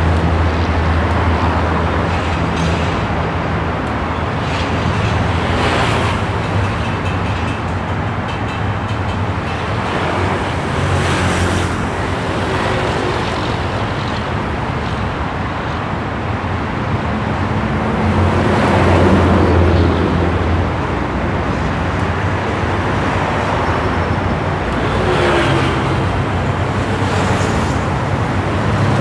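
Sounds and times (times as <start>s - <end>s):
constant rushing wash: 0.0s - 29.0s.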